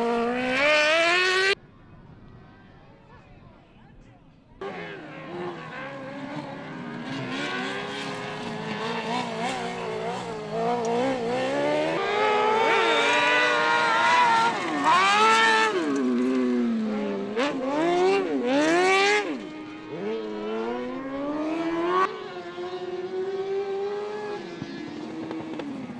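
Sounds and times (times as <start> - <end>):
racing buggy engine revving: 0.0 - 1.6, 4.6 - 25.9.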